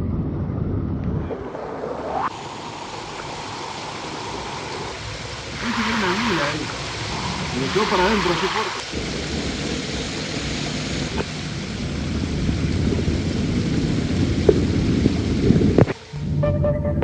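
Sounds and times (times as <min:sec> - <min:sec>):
muffled underwater stream rushing: 0:00.0 - 0:17.0.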